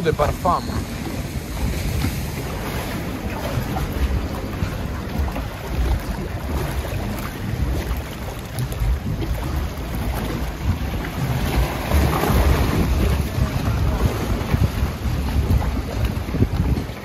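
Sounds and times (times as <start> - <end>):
water rushing and churning: 0.0 - 17.0
wind buffeting microphone: 0.0 - 17.0.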